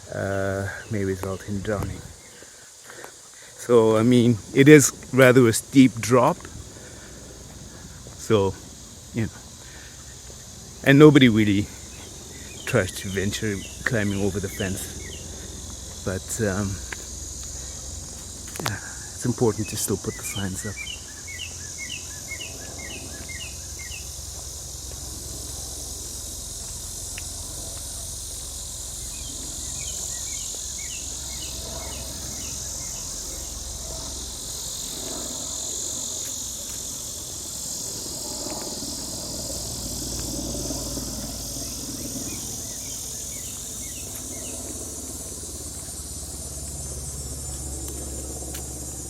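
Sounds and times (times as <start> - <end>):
distant traffic rumble: 0.0 - 49.0
insects droning: 0.0 - 49.0.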